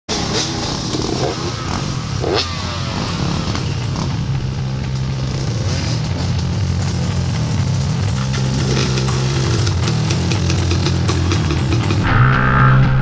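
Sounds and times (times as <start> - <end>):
motorcycle engines running: 0.1 - 12.1.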